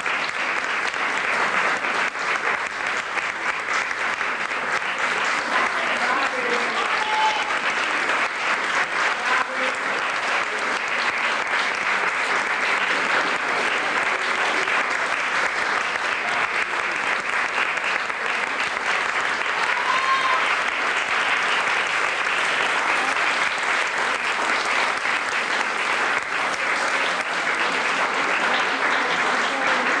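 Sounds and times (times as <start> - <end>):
audience applauding: 0.0 - 30.0.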